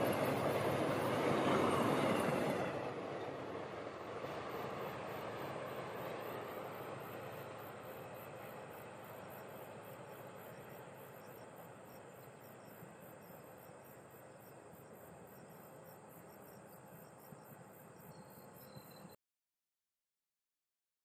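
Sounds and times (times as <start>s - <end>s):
passenger train rumbling on track: 0.0s - 19.1s
insects chirping: 0.1s - 19.2s.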